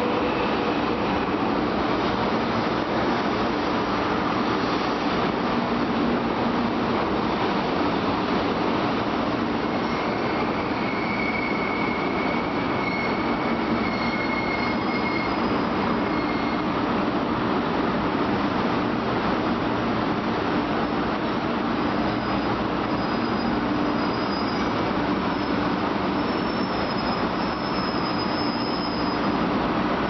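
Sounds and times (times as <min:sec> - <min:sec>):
train rail rumble: 0:00.0 - 0:30.0.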